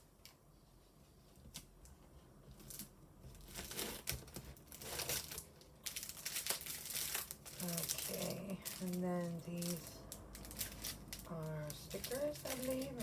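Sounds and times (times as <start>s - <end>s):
paper and stickers crinkling: 2.5s - 13.0s.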